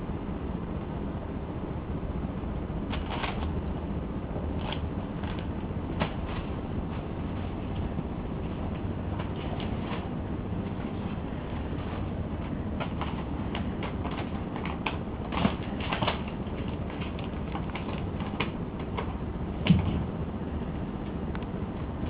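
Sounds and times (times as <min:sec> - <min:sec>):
low background hum: 0:00.0 - 0:22.0
kitten paws tapping and scrabbling: 0:02.9 - 0:03.7, 0:04.4 - 0:22.0.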